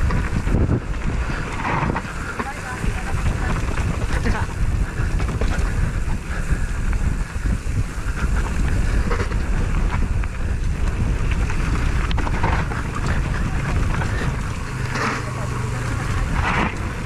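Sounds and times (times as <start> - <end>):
vehicle running noise: 0.0 - 17.0
wind buffeting microphone: 0.0 - 17.0.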